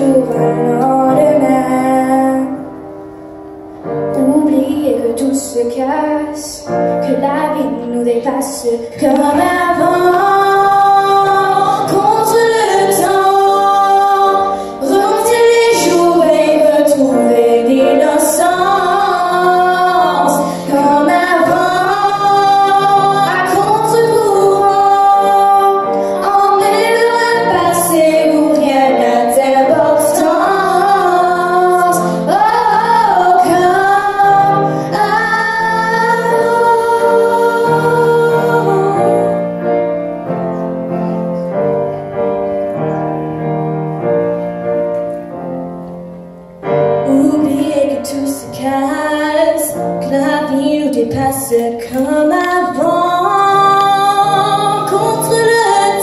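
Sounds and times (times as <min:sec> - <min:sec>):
women singing: 0:00.0 - 0:02.7, 0:04.2 - 0:39.6, 0:47.0 - 0:56.0
grand piano: 0:00.0 - 0:56.0.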